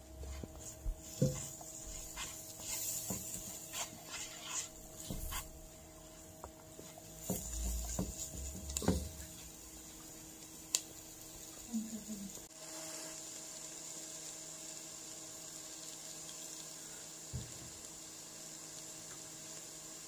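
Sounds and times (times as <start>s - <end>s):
onions sizzling in a pan: 0.0s - 20.0s.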